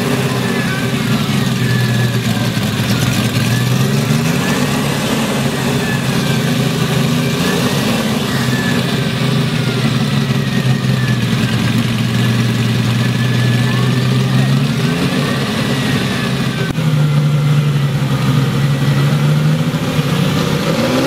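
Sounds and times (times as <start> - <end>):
sports car engine revving: 0.0 - 21.0.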